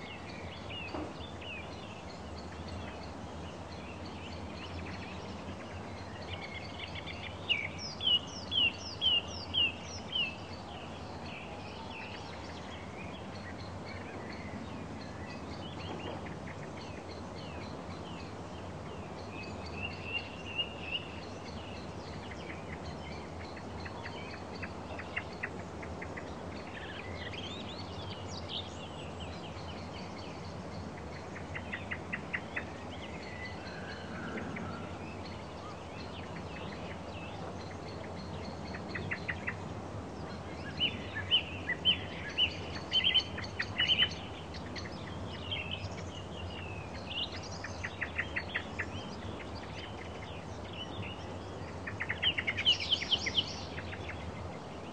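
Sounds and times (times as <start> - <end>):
low rumble of wind: 0.0 - 54.9
songbirds singing: 0.0 - 54.9.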